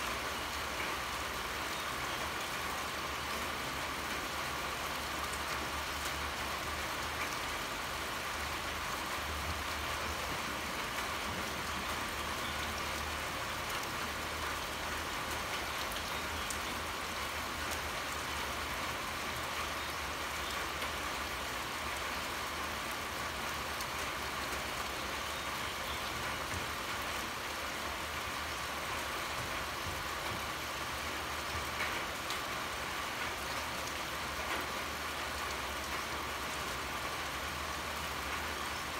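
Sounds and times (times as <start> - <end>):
pouring rain hiss: 0.0 - 38.9.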